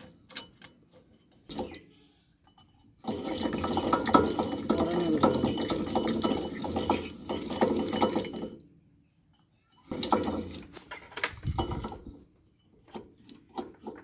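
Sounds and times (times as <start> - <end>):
metal tools clinking: 0.0 - 8.7, 9.3 - 14.0.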